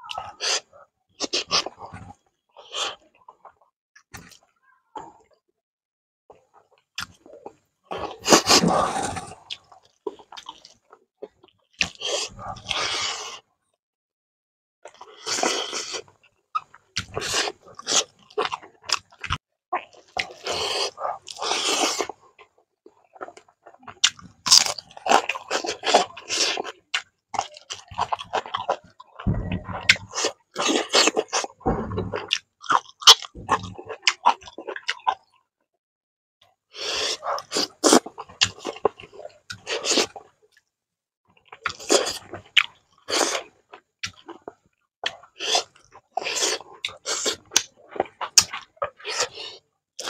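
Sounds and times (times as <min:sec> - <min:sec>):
close-up chewing with crunching: 0:00.0 - 0:04.5, 0:06.4 - 0:13.4, 0:14.8 - 0:35.5, 0:36.7 - 0:40.7, 0:41.3 - 0:50.0.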